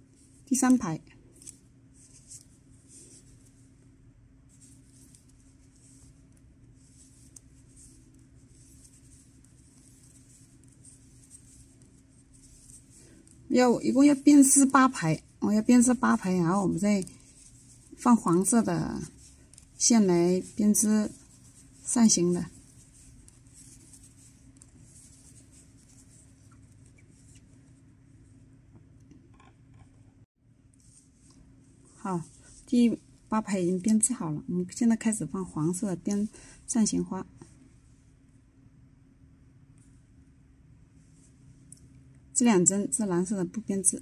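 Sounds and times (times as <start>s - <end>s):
yarn rustling on knitting needles: 0.0s - 29.0s, 30.6s - 38.3s, 39.7s - 44.0s
low room hiss: 0.0s - 44.0s.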